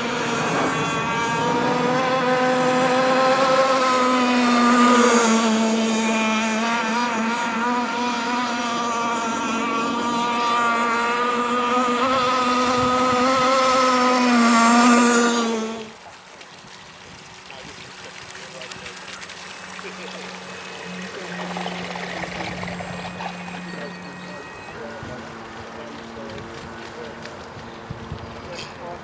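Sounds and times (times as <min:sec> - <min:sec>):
model boat engine buzzing: 0:00.0 - 0:29.0.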